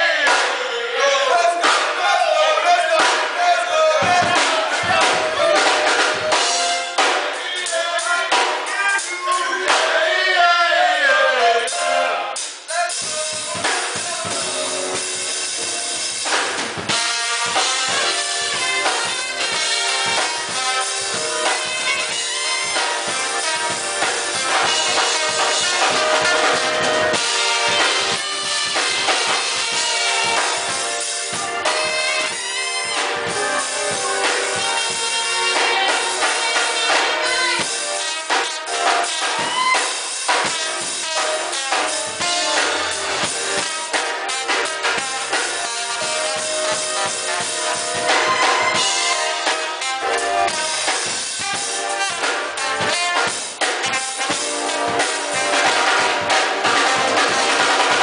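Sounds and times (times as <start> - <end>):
drum kit beat: 0.0 - 0.8, 1.4 - 11.0, 11.6 - 58.0
saxophone and trumpet horn section: 0.0 - 58.0.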